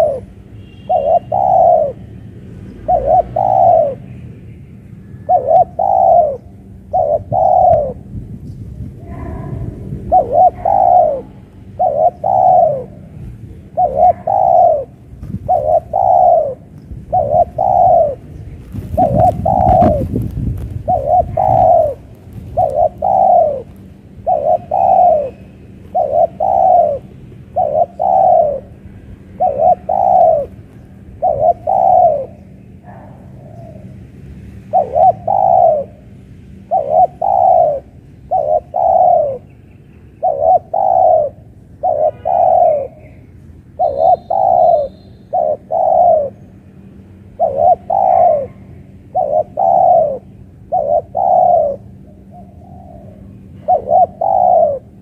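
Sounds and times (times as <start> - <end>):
dove cooing: 0.0 - 4.4, 5.1 - 8.2, 8.8 - 34.0, 34.6 - 55.0.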